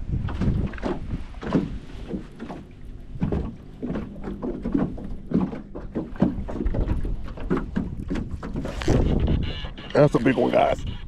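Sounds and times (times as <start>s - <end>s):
low wind rumble: 0.0s - 9.9s
water lapping against boat hull: 0.0s - 11.0s.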